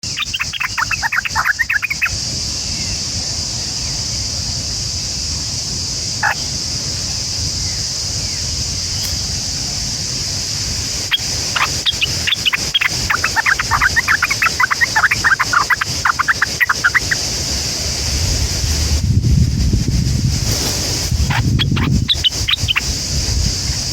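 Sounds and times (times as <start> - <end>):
small birds chirping: 0.0 - 4.5, 6.1 - 17.4, 20.4 - 23.9
high-pitched hiss: 0.0 - 23.9.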